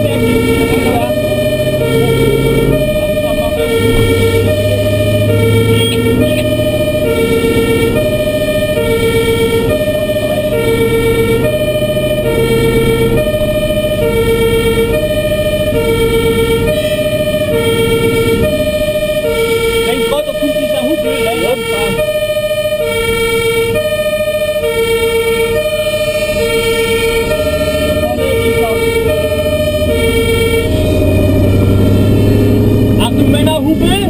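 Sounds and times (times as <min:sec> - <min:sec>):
truck engine running: 0:00.0 - 0:34.0
two-tone fire engine siren: 0:00.0 - 0:34.0.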